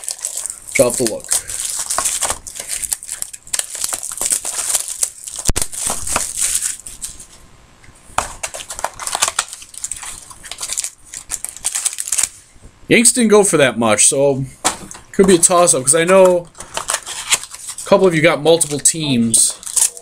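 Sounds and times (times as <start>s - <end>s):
packaging crinkling: 0.0s - 7.4s, 8.2s - 12.4s, 15.5s - 20.0s.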